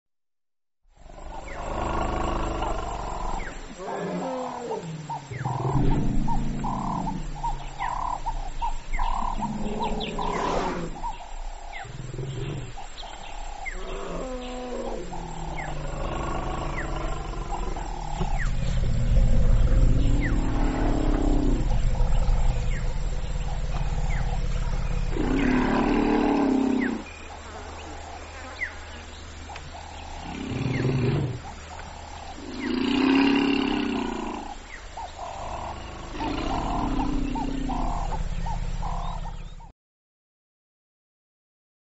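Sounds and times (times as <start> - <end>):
elephants roaring calls: 1.1 - 29.1, 29.7 - 39.7
elephants rumbling: 1.1 - 39.7.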